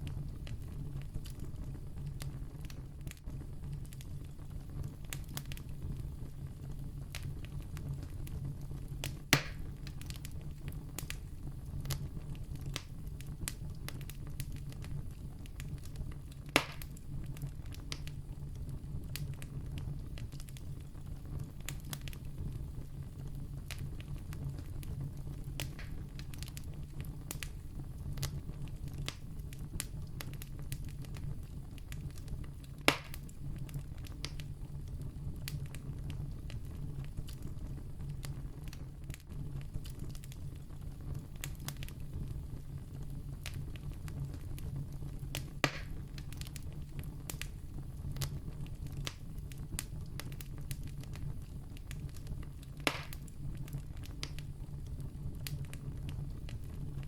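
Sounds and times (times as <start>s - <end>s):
campfire crackling: 0.0s - 57.0s
loud pops of fire: 0.0s - 57.0s.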